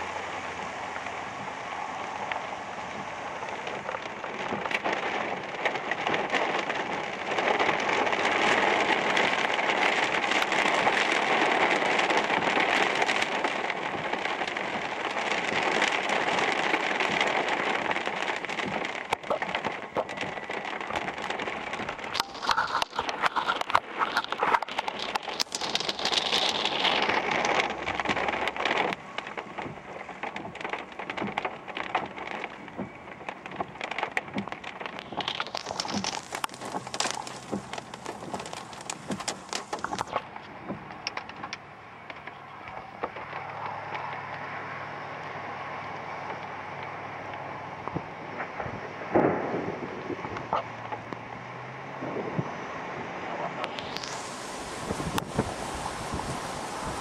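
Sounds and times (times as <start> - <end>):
heavy rain pouring: 0.0 - 57.0
sharp clicks and pops: 2.3 - 44.4, 46.2 - 51.3, 53.4 - 55.5.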